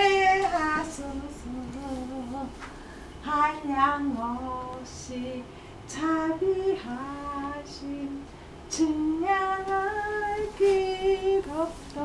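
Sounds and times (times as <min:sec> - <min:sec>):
person singing slow tune: 0:00.0 - 0:12.0.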